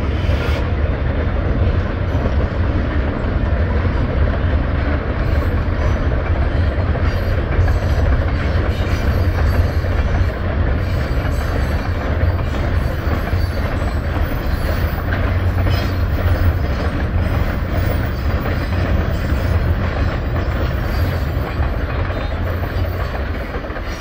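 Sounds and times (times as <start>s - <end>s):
freight cars rolling on rails: 0.0s - 24.0s.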